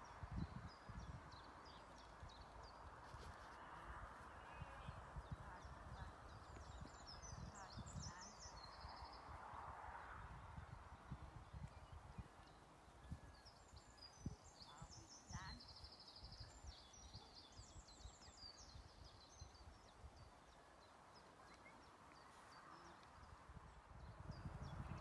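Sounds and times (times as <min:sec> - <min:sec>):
faint songbird chirps and trills: 0:00.0 - 0:25.0.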